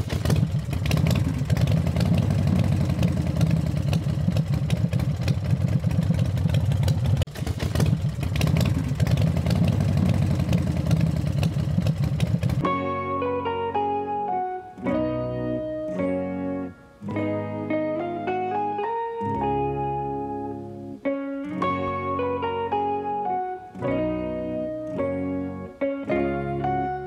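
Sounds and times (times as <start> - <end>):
plucked guitar music: 0.4 - 5.9, 8.5 - 27.0.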